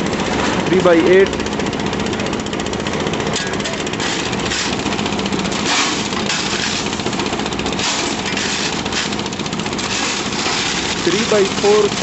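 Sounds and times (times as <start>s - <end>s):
concrete mixer running: 0.0s - 12.0s.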